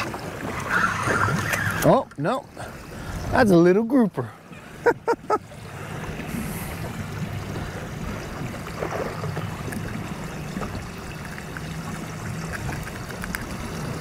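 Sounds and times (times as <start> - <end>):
water lapping against boat hull: 0.0 - 14.0.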